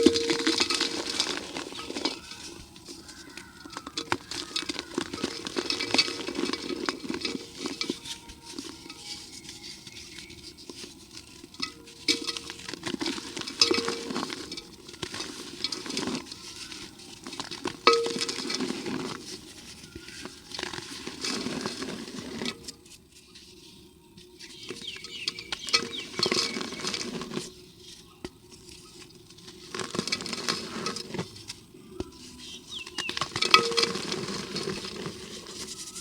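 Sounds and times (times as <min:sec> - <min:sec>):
cement grating against clay pot: 0:00.0 - 0:36.0.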